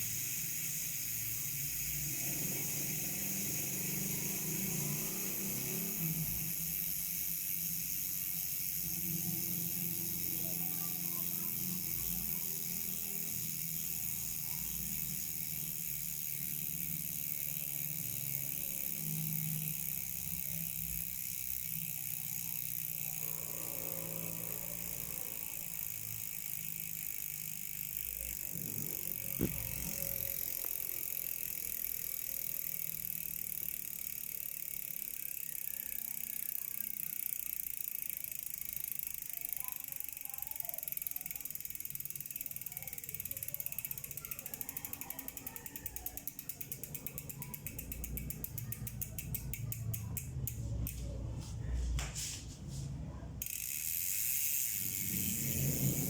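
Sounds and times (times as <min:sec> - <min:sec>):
bicycle freehub buzzing: 0:00.0 - 0:56.0.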